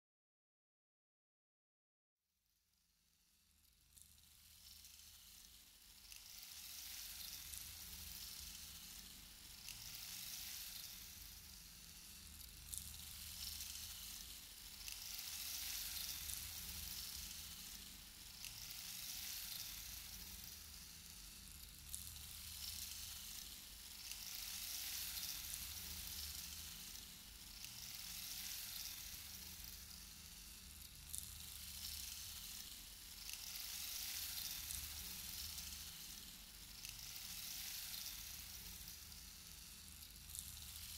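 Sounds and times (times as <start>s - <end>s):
sizzling hiss: 2.8s - 40.9s.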